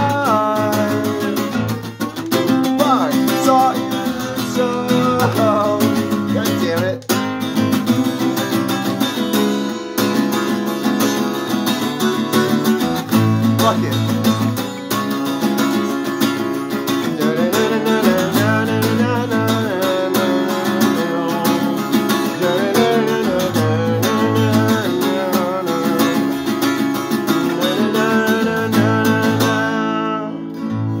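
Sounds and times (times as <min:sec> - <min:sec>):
acoustic guitar strumming: 0:00.0 - 0:31.0
man singing: 0:00.0 - 0:31.0.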